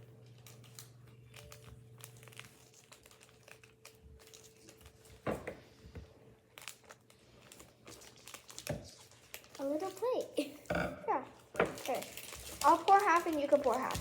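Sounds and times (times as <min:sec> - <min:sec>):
plastic packet crinkling and tearing: 0:00.0 - 0:10.5, 0:11.4 - 0:14.0.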